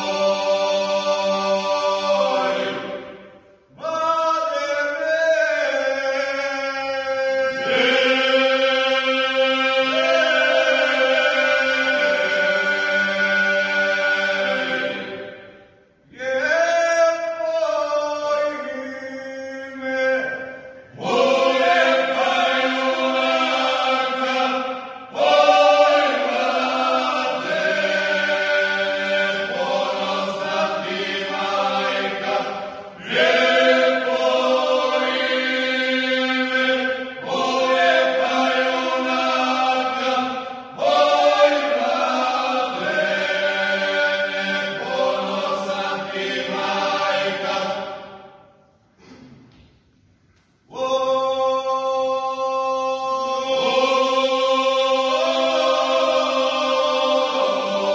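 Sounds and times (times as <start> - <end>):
men singing in harmony: 0.0 - 3.1, 3.8 - 15.3, 16.2 - 48.1.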